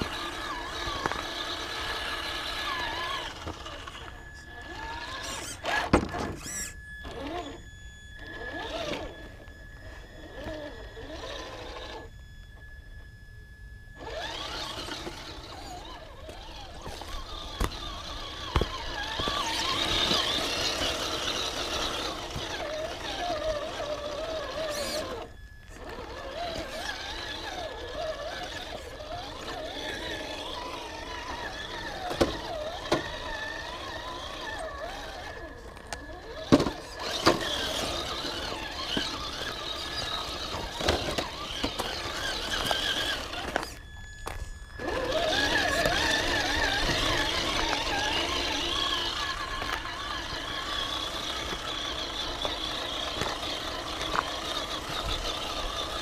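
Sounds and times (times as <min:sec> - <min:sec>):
electric motor and drivetrain whining: 0:00.0 - 0:56.0.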